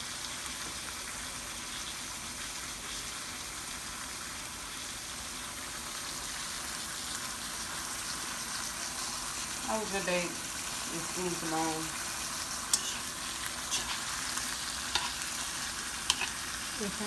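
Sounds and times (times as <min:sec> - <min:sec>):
food sizzling in pans: 0:00.0 - 0:17.0.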